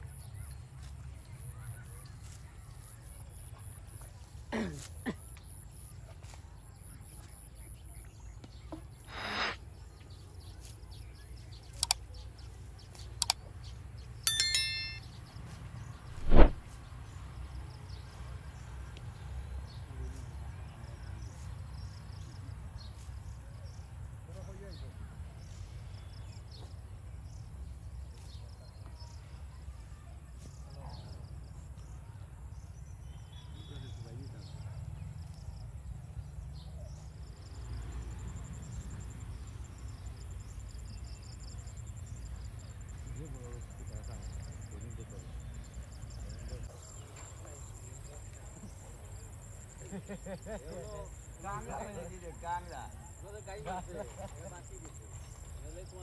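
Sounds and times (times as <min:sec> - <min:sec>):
birds and insects chirping: 0:00.0 - 0:18.7, 0:19.4 - 0:56.0.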